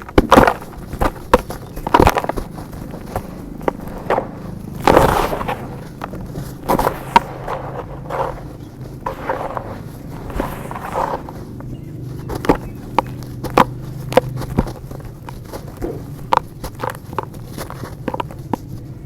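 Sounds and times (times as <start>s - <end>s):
dried dirt crunching and crackling: 0.0s - 19.0s.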